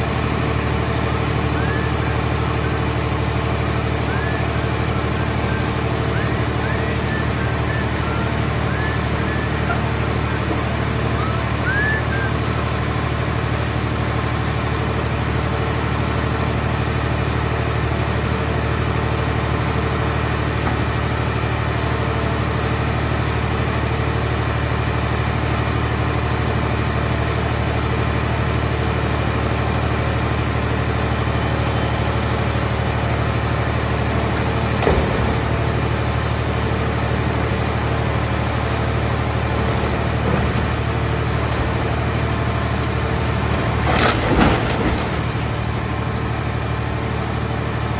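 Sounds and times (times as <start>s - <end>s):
machine engine running: 0.0s - 47.9s.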